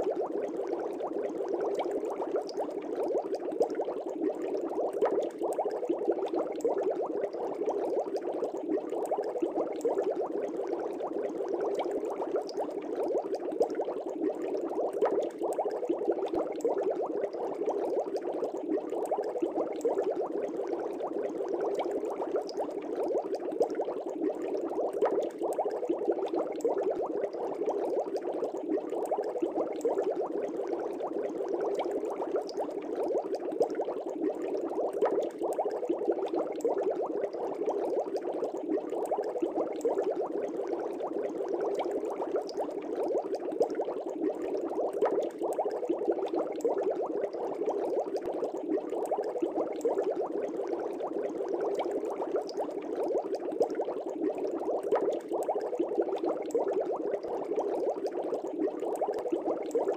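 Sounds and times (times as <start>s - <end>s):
air bubbles in fish tank: 0.0s - 59.9s.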